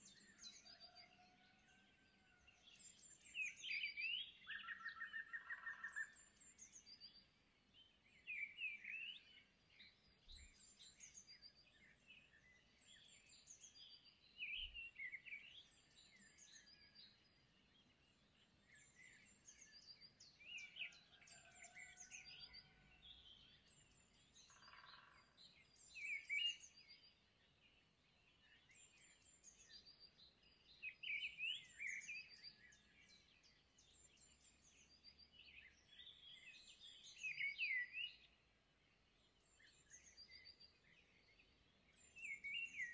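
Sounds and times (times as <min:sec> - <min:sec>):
faint birds chirping: 0:00.0 - 0:42.9.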